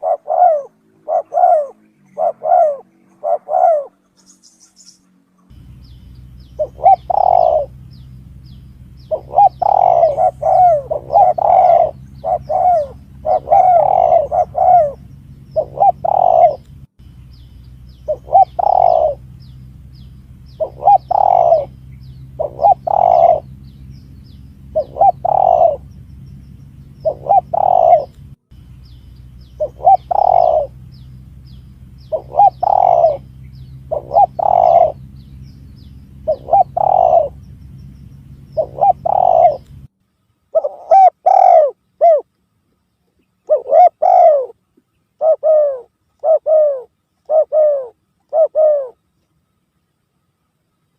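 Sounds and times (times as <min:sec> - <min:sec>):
dove cooing: 0:00.0 - 0:04.4, 0:05.5 - 0:16.7, 0:18.0 - 0:26.1, 0:26.8 - 0:28.2, 0:29.4 - 0:39.8, 0:40.5 - 0:42.3, 0:43.4 - 0:44.6, 0:45.2 - 0:49.0
steady low hum: 0:00.0 - 0:50.9.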